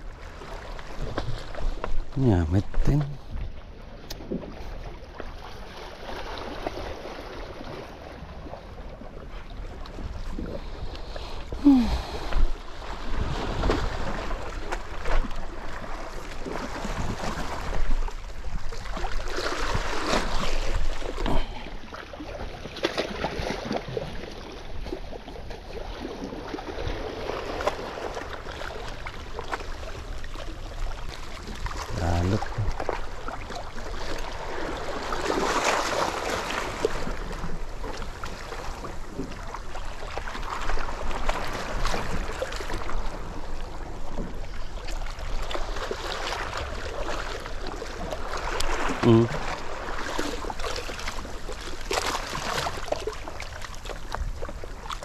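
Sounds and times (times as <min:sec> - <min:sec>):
waves lapping against rocks: 0:00.0 - 0:55.0.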